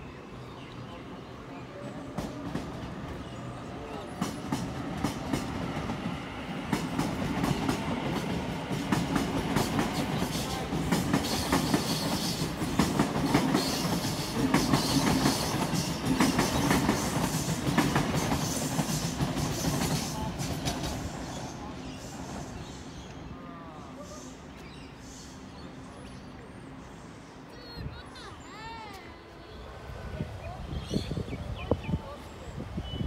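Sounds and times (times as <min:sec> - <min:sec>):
wheels rumbling on rail: 0:00.3 - 0:27.0.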